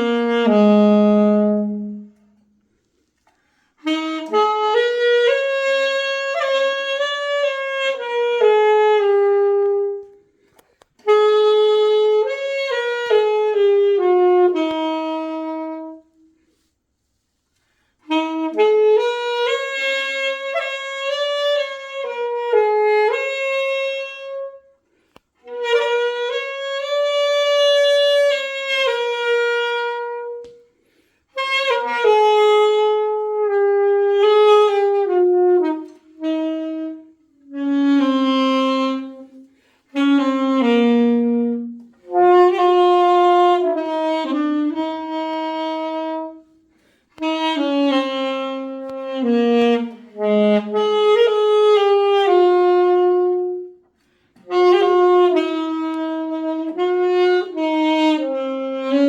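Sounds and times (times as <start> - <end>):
solo saxophone melody: 0.0 - 59.0.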